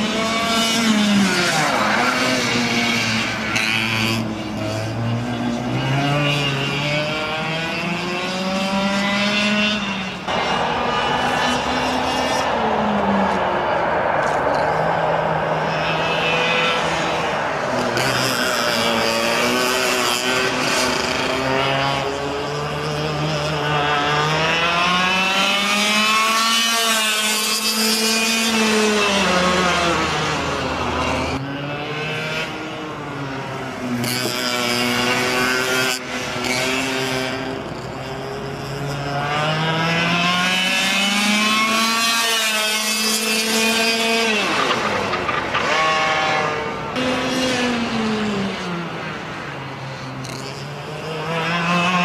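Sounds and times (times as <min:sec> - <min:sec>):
racing kart two-stroke engine: 0:00.0 - 0:52.0.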